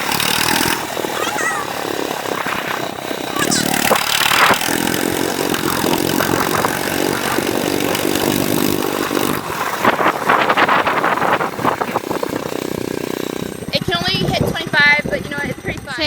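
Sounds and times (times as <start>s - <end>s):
pit bike engine revving: 0.0s - 15.5s.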